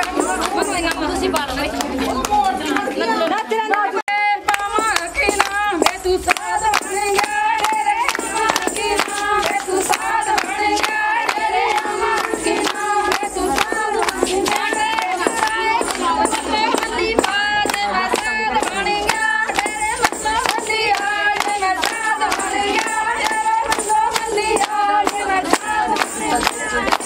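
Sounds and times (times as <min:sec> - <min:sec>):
rhythmic hand-clapping: 0:00.0 - 0:27.0
women singing in chorus: 0:00.0 - 0:27.0.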